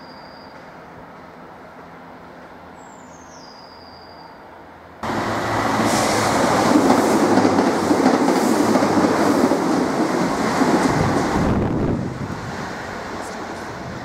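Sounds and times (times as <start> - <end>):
train engines humming: 0.0 - 14.0
train wheel and rail rush: 0.0 - 14.0.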